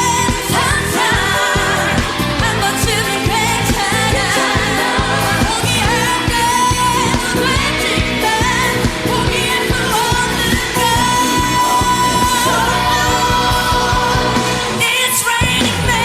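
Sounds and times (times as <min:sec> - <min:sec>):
band with steady drum beat: 0:00.0 - 0:16.0
women singing pop song: 0:00.0 - 0:16.0.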